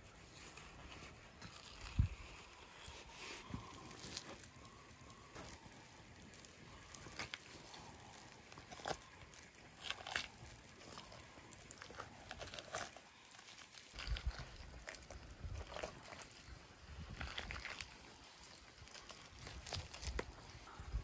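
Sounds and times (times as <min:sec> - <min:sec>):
fish skin peeling: 0:00.1 - 0:20.7.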